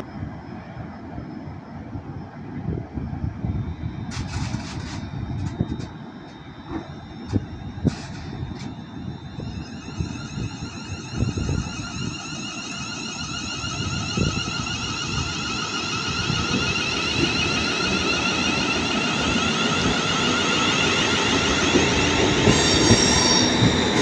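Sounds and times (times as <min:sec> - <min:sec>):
electric train whine: 0:00.0 - 0:24.0
wind buffeting microphone: 0:00.0 - 0:24.0.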